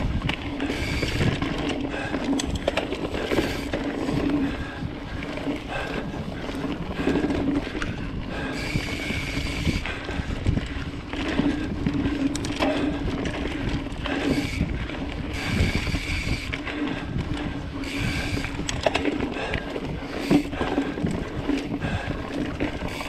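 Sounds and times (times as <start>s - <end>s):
bike rattling and knocking: 0.0s - 23.0s
bike tyres on dirt: 0.0s - 23.0s
wind on microphone: 0.0s - 23.0s.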